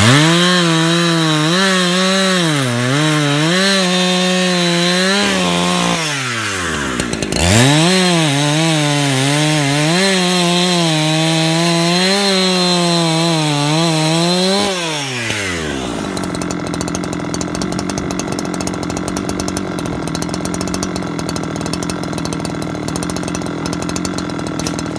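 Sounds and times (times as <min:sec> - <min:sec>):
chainsaw cutting a log: 0:00.0 - 0:24.9
chainsaw idling: 0:00.0 - 0:24.9.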